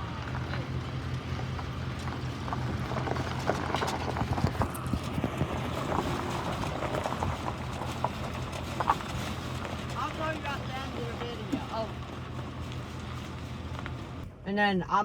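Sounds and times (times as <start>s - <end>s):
diesel truck engine running: 0.0s - 14.4s
irregular clicks and crackles: 0.2s - 14.2s.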